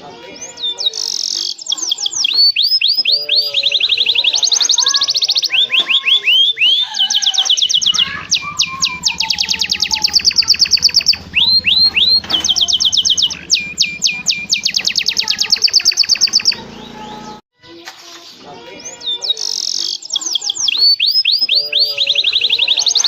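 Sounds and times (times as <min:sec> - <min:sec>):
canary singing trills: 0:00.0 - 0:17.4, 0:18.5 - 0:23.0.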